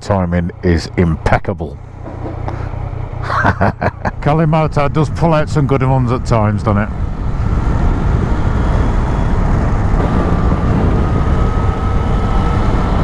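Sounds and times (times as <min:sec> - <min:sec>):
drivetrain whine: 0:00.0 - 0:13.0
wind and road rumble: 0:00.0 - 0:13.0.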